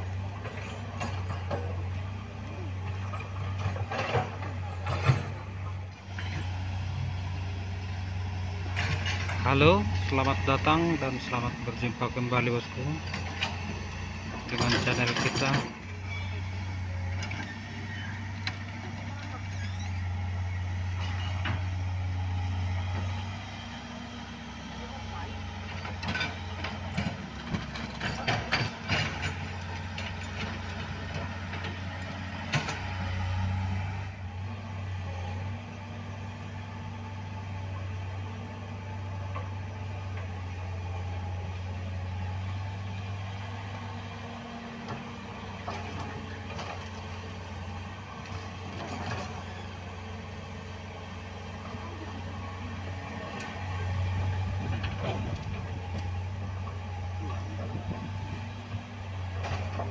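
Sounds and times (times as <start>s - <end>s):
heavy vehicle engine humming: 0.0s - 59.9s.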